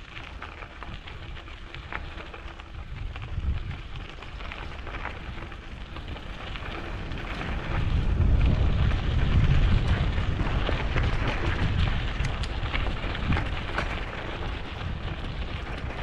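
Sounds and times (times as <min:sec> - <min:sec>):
bike tyres crunching on gravel: 0:00.0 - 0:16.0
wind rumble on microphone: 0:00.0 - 0:16.0.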